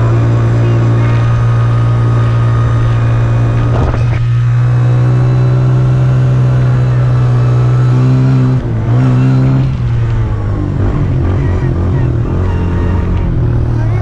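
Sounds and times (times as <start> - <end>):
four-wheeler engine running: 0.0 - 14.0.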